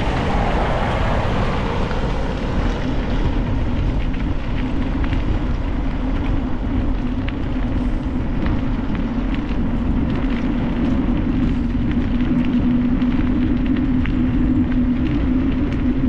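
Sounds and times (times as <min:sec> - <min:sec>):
steady hum: 0:00.0 - 0:16.0
tyre and trail rumble: 0:00.0 - 0:16.0
wind rushing over microphone: 0:00.0 - 0:16.0.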